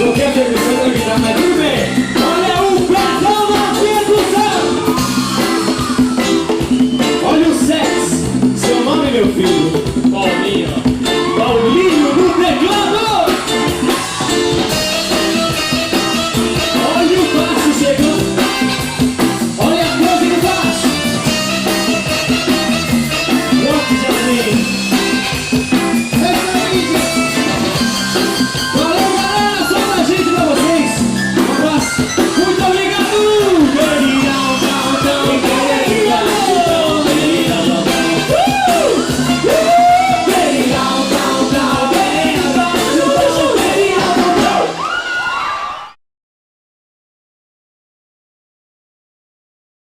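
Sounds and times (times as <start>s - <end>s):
live rock band playing: 0.0s - 45.5s.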